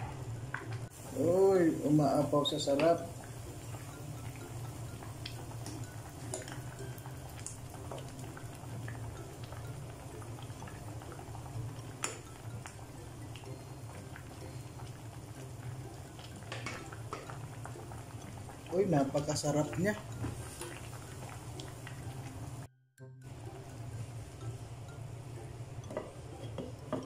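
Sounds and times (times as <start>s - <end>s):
soup boiling and bubbling: 0.0s - 27.0s.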